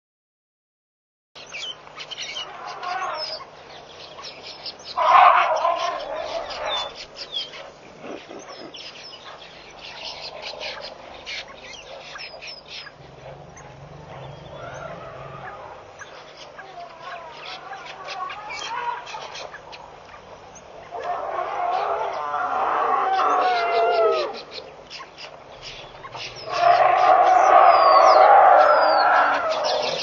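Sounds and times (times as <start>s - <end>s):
birds chirping: 1.4s - 30.0s
low bird call: 4.2s - 30.0s.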